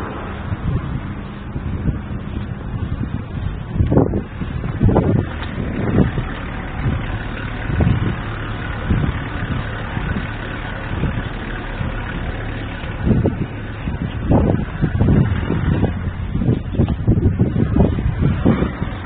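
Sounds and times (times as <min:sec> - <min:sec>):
road noise: 0:00.0 - 0:19.0
vehicle engine running: 0:00.0 - 0:19.0
vehicles passing: 0:00.0 - 0:19.0.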